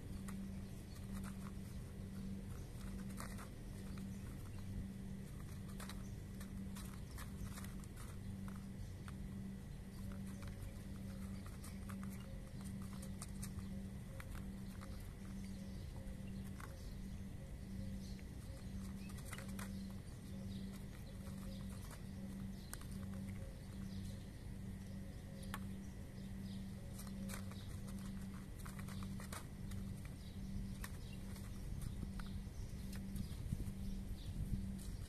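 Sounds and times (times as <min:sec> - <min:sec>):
cats crunching dry kibble: 0:00.0 - 0:35.0
low pulsing hum: 0:00.0 - 0:35.0.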